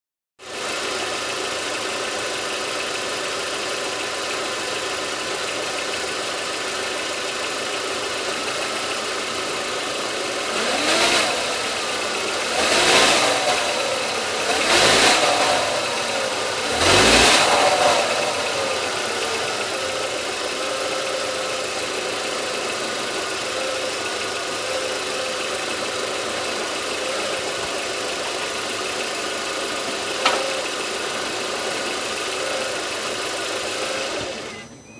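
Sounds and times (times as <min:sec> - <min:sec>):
car engine idling and revving: 0:00.4 - 0:34.9.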